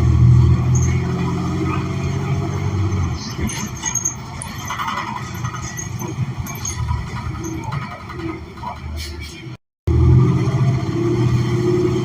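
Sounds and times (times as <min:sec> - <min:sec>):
bus engine droning: 0:00.0 - 0:12.0
bus interior rattles and clicks: 0:00.0 - 0:12.0.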